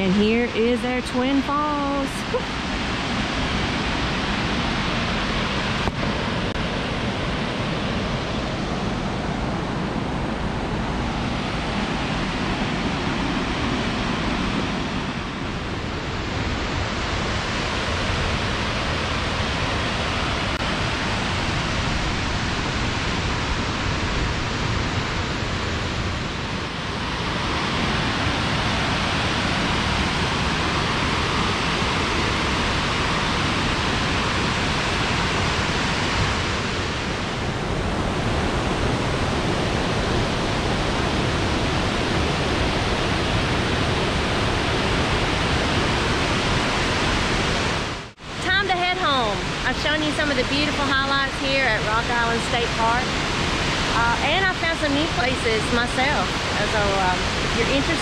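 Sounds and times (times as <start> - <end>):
waterfall rushing: 0.2 - 58.0.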